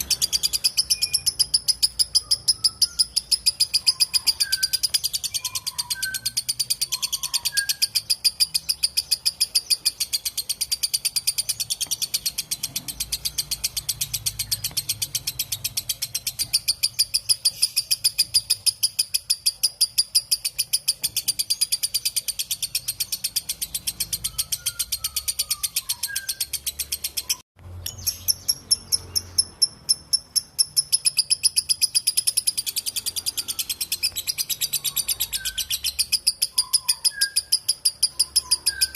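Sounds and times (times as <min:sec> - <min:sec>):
faint lower bird chirps: 0:00.0 - 0:38.9
lovebird shrill rapid chatter: 0:00.0 - 0:38.9.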